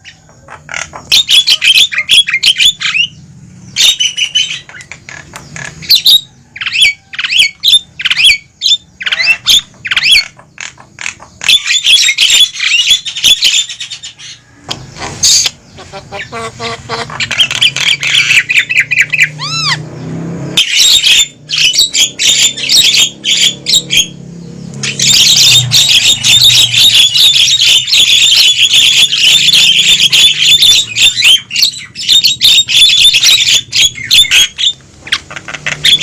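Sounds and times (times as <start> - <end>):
mynas chattering and squawking: 0.0 - 36.0.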